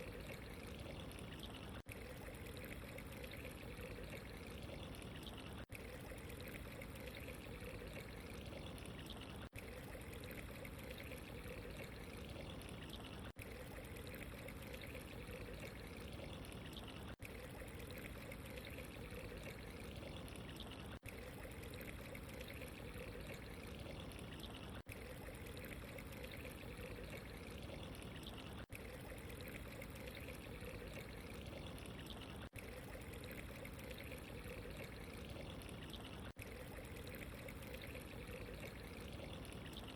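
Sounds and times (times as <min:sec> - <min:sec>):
water pouring: 0:00.0 - 0:39.9.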